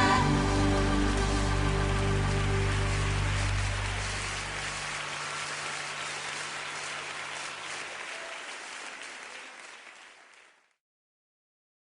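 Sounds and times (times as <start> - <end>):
congregation applauding: 0.0 - 10.8.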